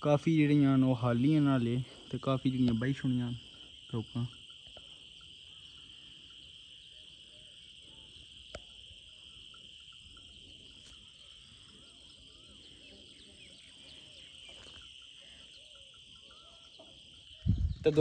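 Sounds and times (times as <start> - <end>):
insect chorus chirring: 0.0 - 18.0.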